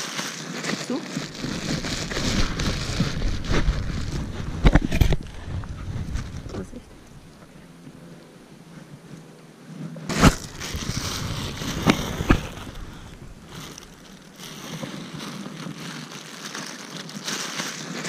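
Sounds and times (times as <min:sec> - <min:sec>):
plastic bag rustling: 0:00.0 - 0:07.9, 0:10.1 - 0:18.0.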